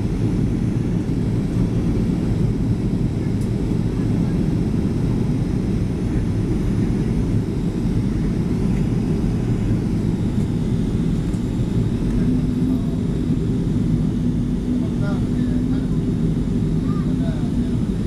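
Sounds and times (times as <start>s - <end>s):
aircraft engines rumbling: 0.0s - 18.0s
steady hum: 0.0s - 18.0s.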